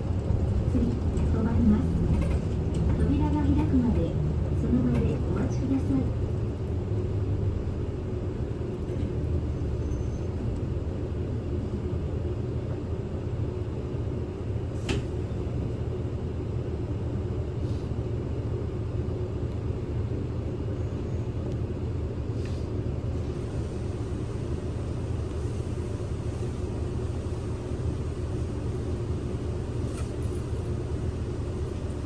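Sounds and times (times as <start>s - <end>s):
bus engine hum: 0.0s - 32.0s
road rumble: 0.0s - 32.0s.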